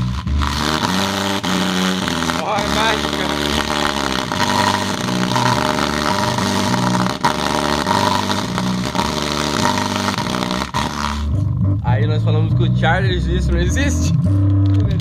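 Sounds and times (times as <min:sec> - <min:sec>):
loud music with deep bass: 0:00.0 - 0:15.0.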